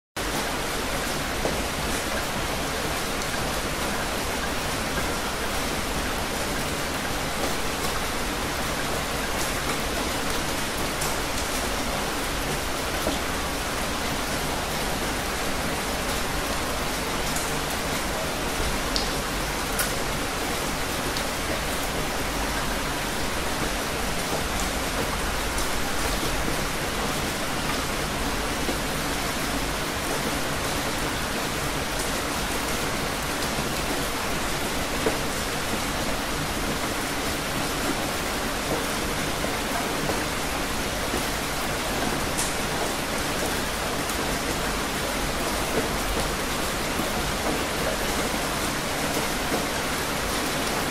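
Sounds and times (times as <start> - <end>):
heavy rain pouring: 0.2 - 50.9.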